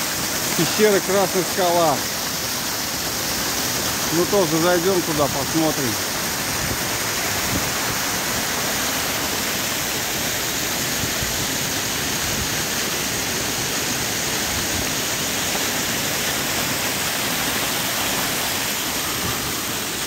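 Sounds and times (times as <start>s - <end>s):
small waterfall rushing: 0.0s - 20.0s.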